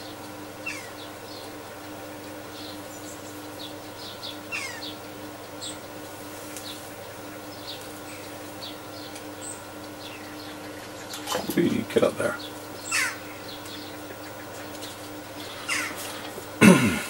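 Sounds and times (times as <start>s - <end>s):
small birds chirping: 0.0s - 16.6s
steady background hum: 0.0s - 17.0s.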